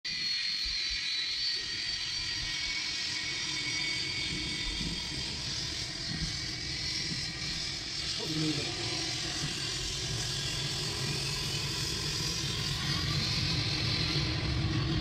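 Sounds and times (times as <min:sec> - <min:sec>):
thin high engine whine: 0:00.1 - 0:15.0
jet engines rushing hiss: 0:00.2 - 0:15.0.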